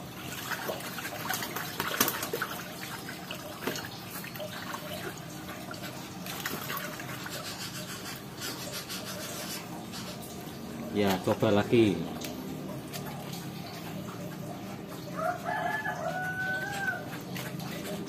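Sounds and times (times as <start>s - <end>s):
water sloshing and dripping: 0.0s - 18.0s.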